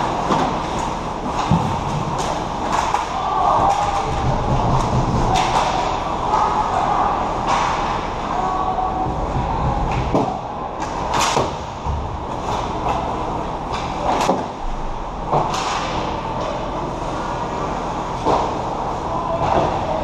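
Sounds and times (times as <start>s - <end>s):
hockey sticks and puck clacking: 0.0s - 14.6s, 15.3s - 20.0s.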